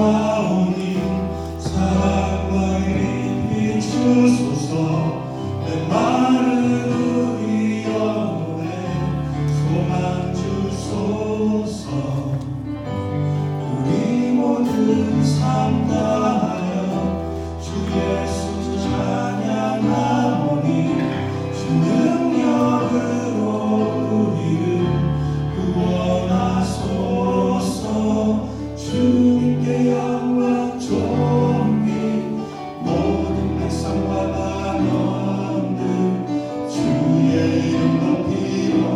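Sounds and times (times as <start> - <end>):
bass and instrumental accompaniment: 0.0 - 38.9
group singing worship song: 0.0 - 38.9.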